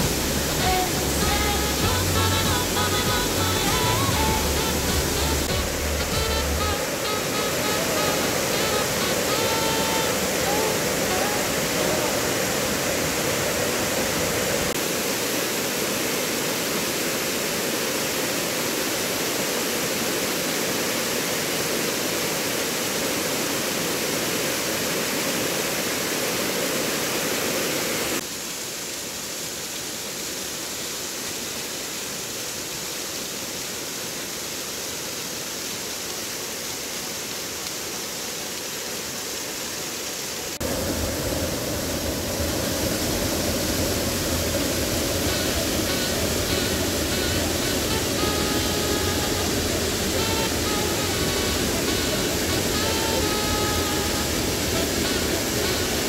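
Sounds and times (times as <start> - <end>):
stream and waterfall rushing: 0.0 - 56.0.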